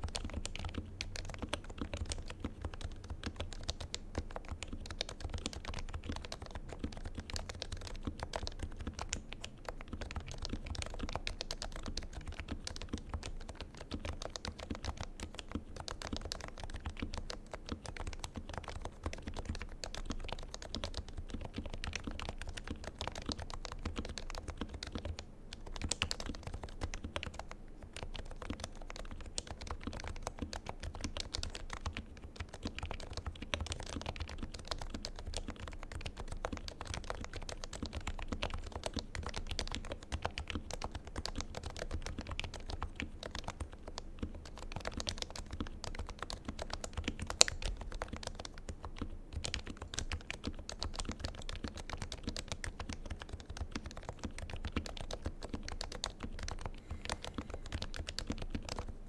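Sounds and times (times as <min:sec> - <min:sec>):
fast keyboard typing: 0:00.0 - 0:59.0.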